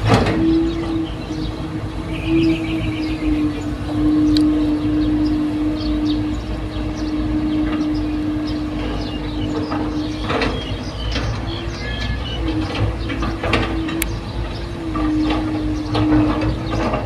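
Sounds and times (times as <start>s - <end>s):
constant whine: 0.0s - 17.0s
excavator engine rumble: 0.0s - 17.0s
high metallic squeaks and clicks: 0.0s - 17.0s.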